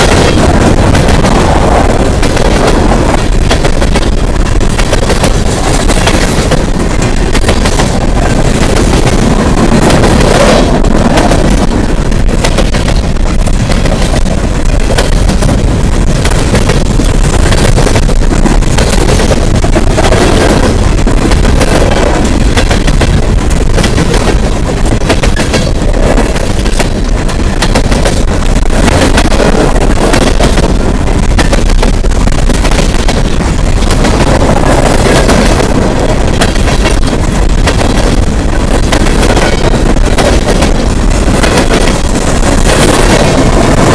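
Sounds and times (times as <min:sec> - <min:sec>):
steel wheels rumbling on rail: 0:00.0 - 0:43.9.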